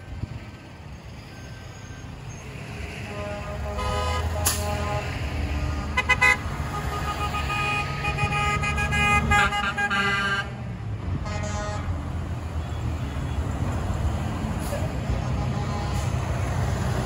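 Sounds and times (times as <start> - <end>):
truck engines running: 0.0 - 17.0
truck horns honking: 1.2 - 17.0.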